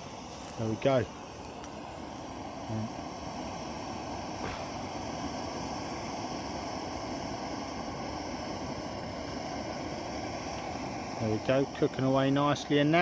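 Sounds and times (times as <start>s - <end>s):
gas stove burner hissing: 0.0s - 13.0s.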